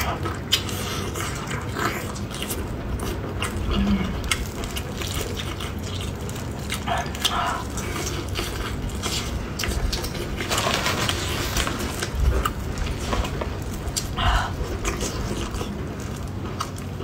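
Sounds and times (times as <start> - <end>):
close chewing and mouth sounds: 0.0 - 17.0.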